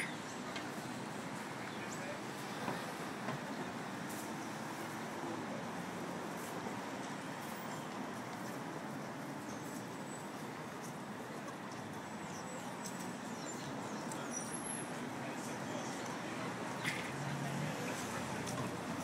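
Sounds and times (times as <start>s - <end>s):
traffic hum: 0.0s - 19.0s.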